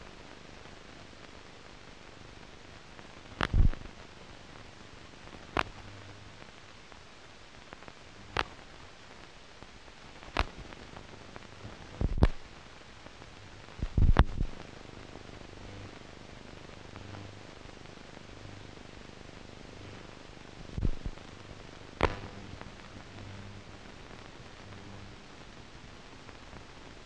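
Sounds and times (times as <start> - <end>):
film soundtrack hiss: 0.0 - 27.0.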